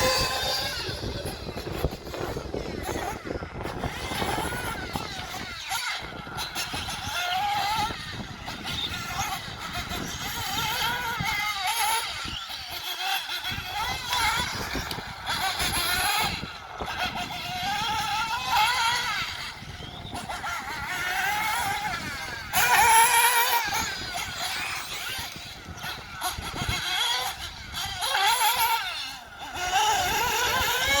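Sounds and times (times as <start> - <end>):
model buggy engine revving: 0.0 - 31.0.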